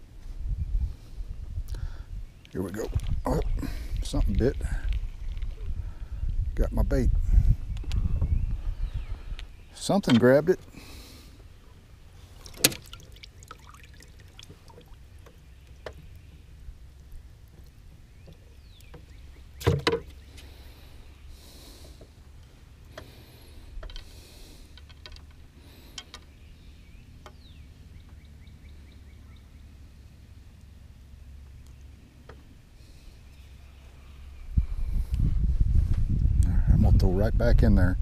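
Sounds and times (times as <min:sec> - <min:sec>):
low steady rumble: 0:00.0 - 0:38.0.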